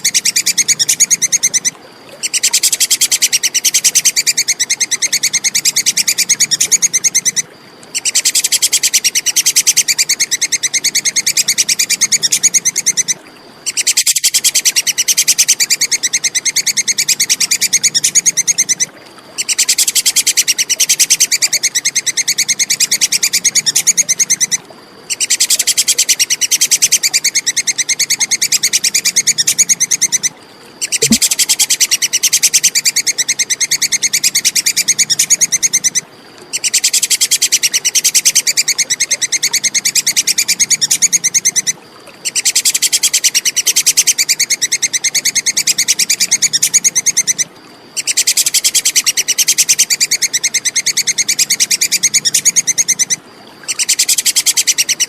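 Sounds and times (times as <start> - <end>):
squirrel chattering call: 0.0 - 47.4, 48.0 - 55.0.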